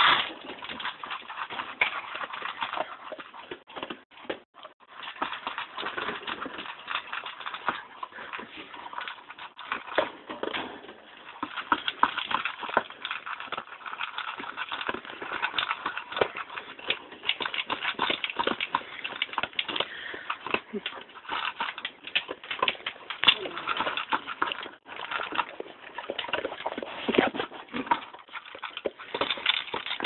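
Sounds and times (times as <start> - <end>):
dog crunching kibble: 0.0 - 30.0.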